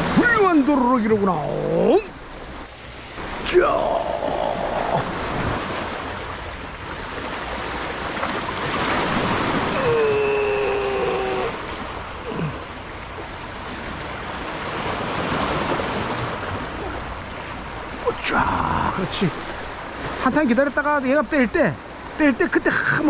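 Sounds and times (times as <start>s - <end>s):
sea waves washing: 0.0s - 23.0s.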